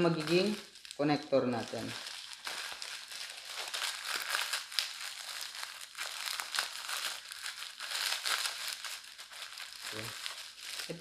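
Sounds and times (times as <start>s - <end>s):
plastic pouch crinkling: 0.0s - 11.0s.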